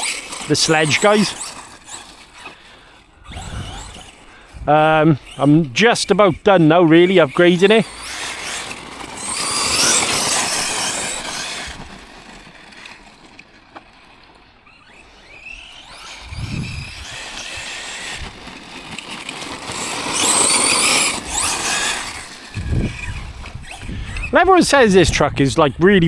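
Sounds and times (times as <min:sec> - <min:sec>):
rc truck motor whine: 0:00.0 - 0:26.0
tyres on gravel: 0:00.0 - 0:26.0.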